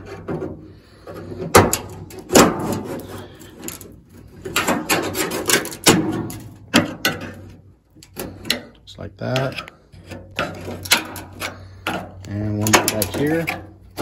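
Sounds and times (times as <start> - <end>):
scraping: 0.0 - 14.0.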